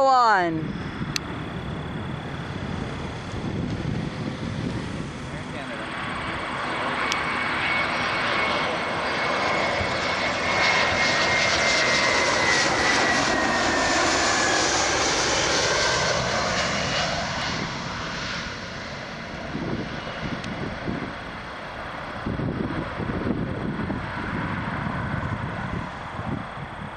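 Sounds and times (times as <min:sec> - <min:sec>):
jet engines passing with whine: 0:00.0 - 0:26.9.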